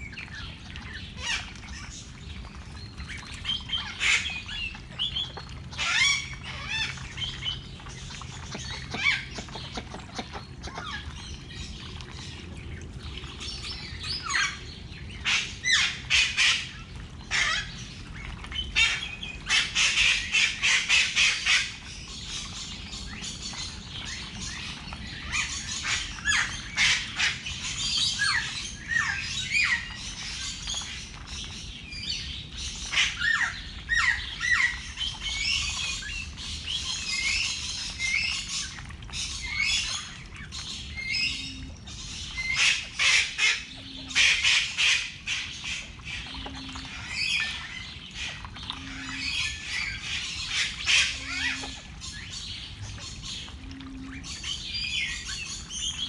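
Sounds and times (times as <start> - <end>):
birds chirping and calling: 0.0 - 56.0.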